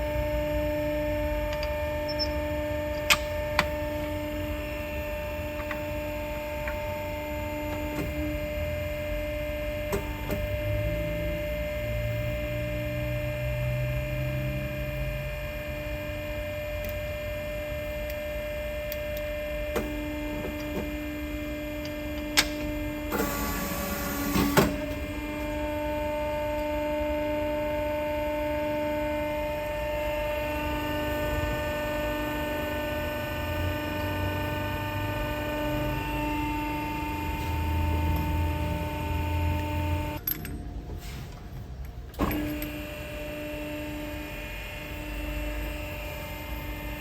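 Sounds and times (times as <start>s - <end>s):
machine humming: 0.0s - 47.0s.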